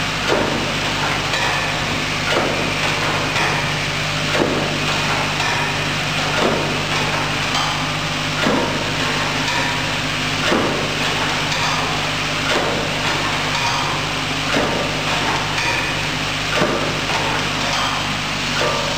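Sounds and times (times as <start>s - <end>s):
machine mechanical hum: 0.0s - 18.9s.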